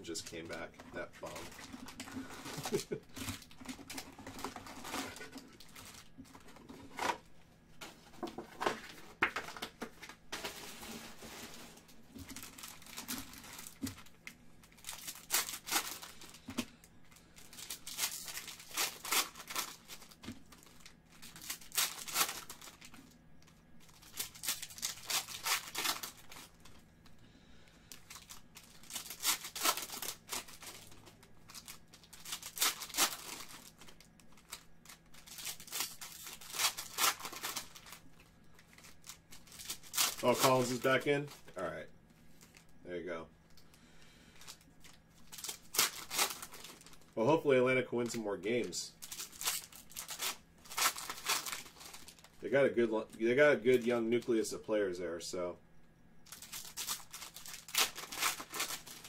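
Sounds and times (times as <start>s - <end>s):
foil wrappers tearing and crinkling: 0.1s - 7.2s, 10.3s - 16.5s, 17.1s - 26.8s, 27.8s - 41.6s, 43.8s - 47.2s, 48.0s - 52.5s, 56.3s - 59.0s.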